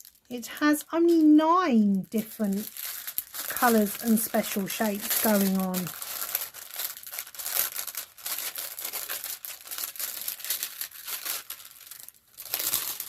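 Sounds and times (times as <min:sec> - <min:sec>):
canvas crinkling and rustling: 0:01.1 - 0:13.0.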